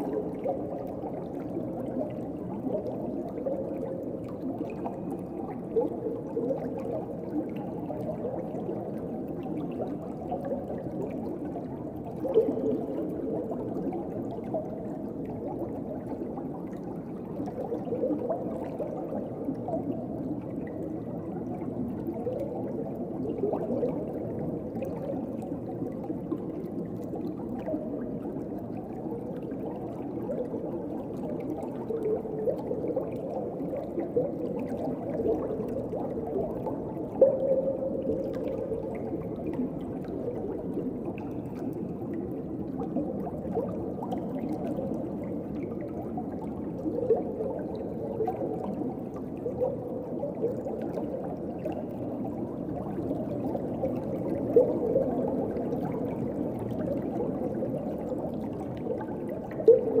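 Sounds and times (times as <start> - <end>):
gurgling bubbles: 0.0 - 60.0
muffled underwater wash: 0.0 - 60.0.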